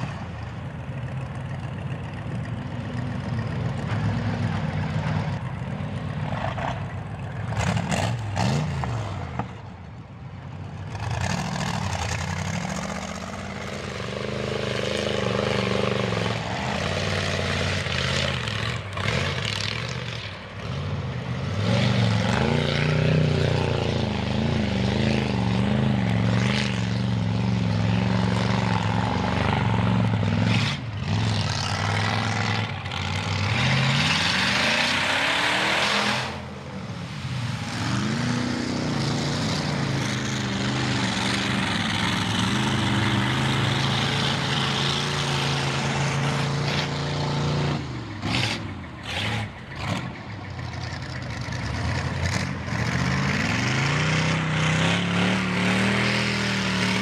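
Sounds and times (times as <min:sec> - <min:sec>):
truck engine revving hard: 0:06.2 - 0:09.5, 0:10.8 - 0:57.0.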